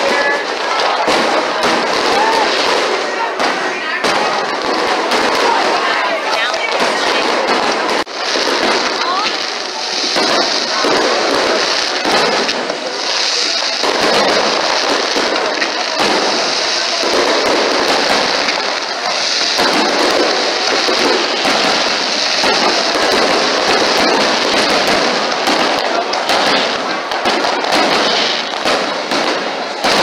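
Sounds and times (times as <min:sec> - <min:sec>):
fireworks bursting and crackling: 0:00.0 - 0:30.0.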